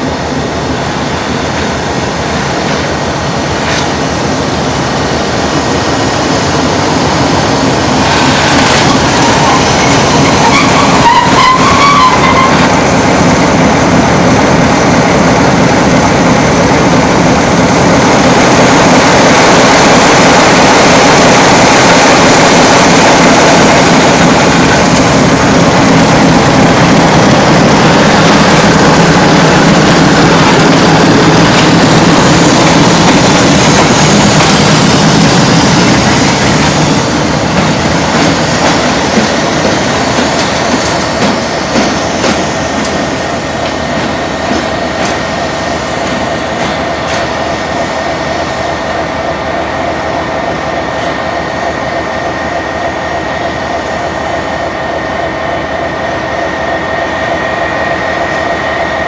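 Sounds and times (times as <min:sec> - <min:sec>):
diesel locomotive passing: 0:00.0 - 0:59.0.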